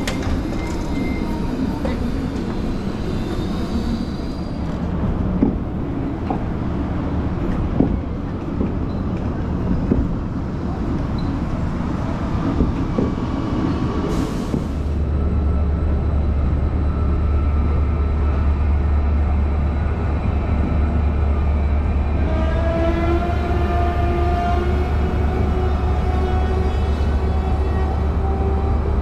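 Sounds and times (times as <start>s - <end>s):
electric train rumbling: 0.0s - 29.0s.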